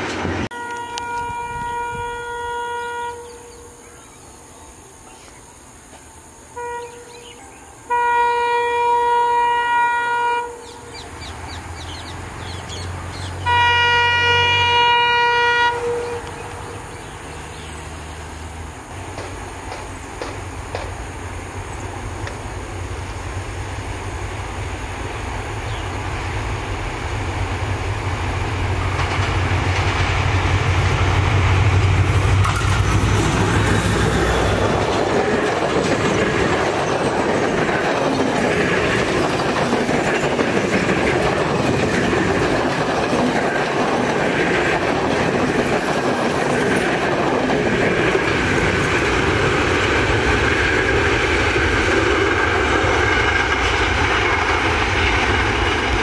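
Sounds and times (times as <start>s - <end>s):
train wheels clickety-clack on rails: 0.0s - 1.7s, 10.9s - 56.0s
diesel locomotive engine drone: 0.0s - 56.0s.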